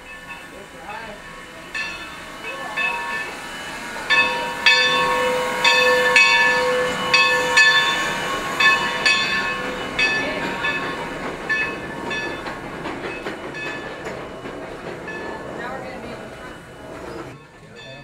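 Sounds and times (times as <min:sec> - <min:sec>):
steam hissing: 0:00.0 - 0:17.4
steam locomotive bell ringing: 0:00.0 - 0:18.0.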